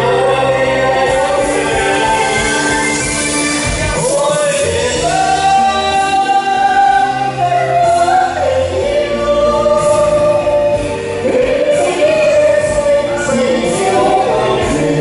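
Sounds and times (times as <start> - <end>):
woman and man singing a duet: 0.0 - 15.0.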